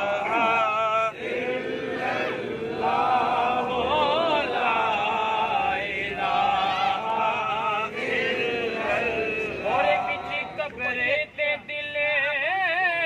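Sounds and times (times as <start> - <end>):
man chanting unaccompanied: 2.0 - 13.0.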